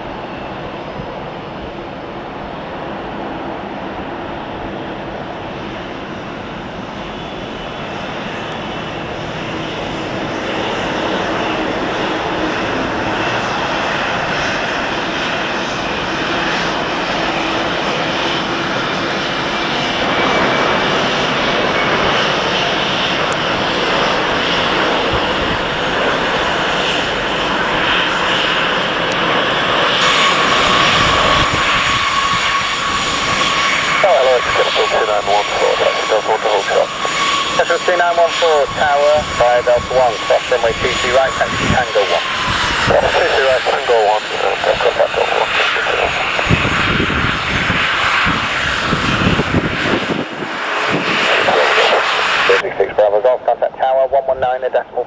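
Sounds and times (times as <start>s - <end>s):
airliner engines running: 0.0s - 55.0s.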